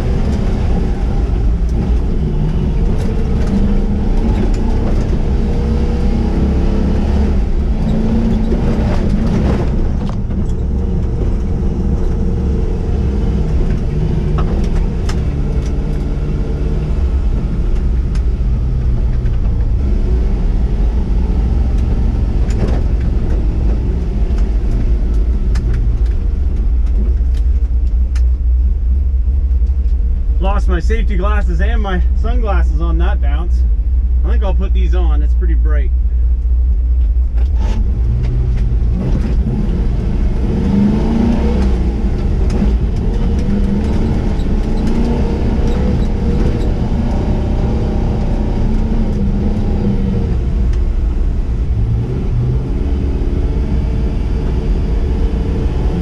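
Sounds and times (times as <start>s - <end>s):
truck engine rumbling: 0.0s - 56.0s.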